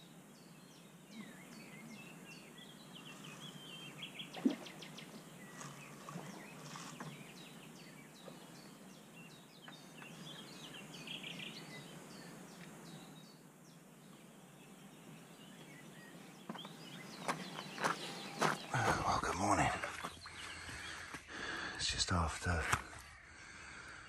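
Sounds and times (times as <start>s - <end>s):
faint background hiss: 0.0s - 24.0s
songbirds chirping: 0.0s - 24.0s.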